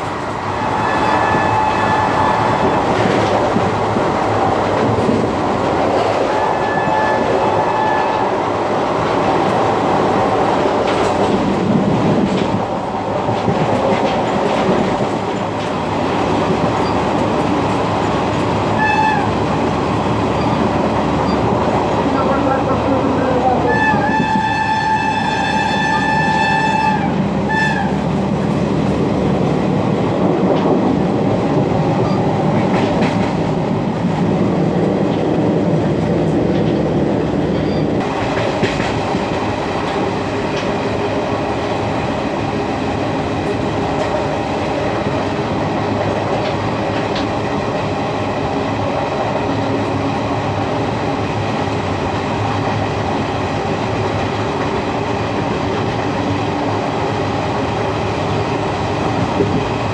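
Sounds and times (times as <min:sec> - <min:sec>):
train wheels on track: 0:00.0 - 0:59.9.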